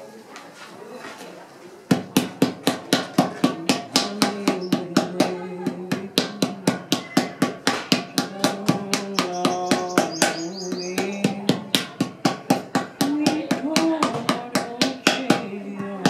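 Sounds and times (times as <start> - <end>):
paddle knocking clay pot: 1.9 - 16.0.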